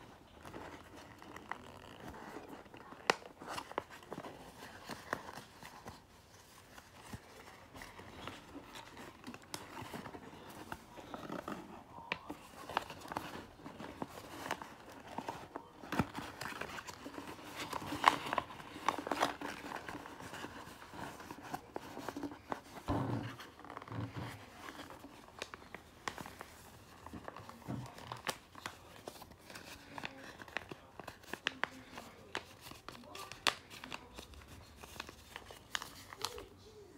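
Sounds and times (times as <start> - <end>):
paper folding and crinkling: 0.0 - 36.9.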